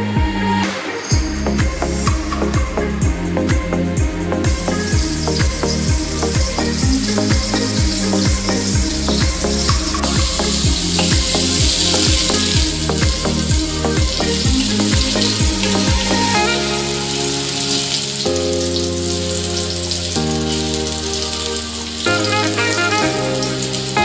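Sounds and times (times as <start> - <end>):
background music: 0.0 - 24.0
garlic sizzling in oil: 4.5 - 24.0.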